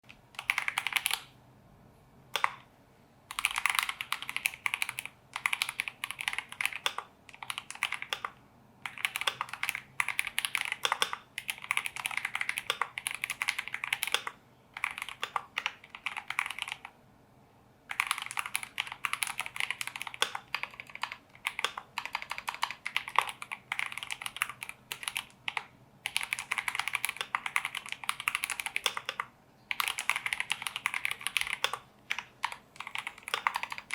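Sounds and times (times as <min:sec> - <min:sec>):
typing on mechanical keyboard: 0:00.1 - 0:01.4, 0:02.4 - 0:02.7, 0:03.3 - 0:17.0, 0:17.9 - 0:33.9.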